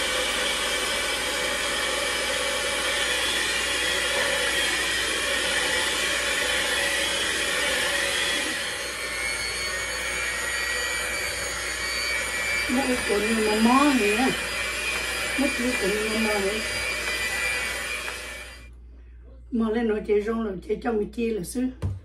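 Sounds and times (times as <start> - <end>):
electric mixer whirring: 0.0 - 18.7.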